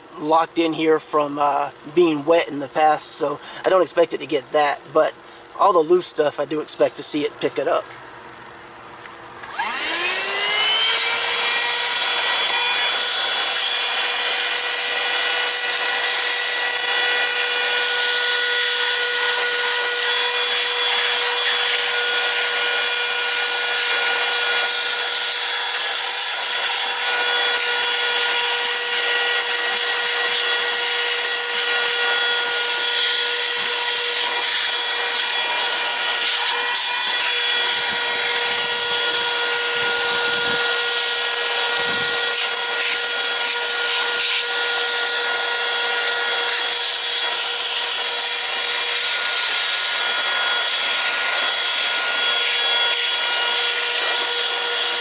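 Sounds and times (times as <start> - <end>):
vacuum cleaner motor whine: 9.4 - 55.0.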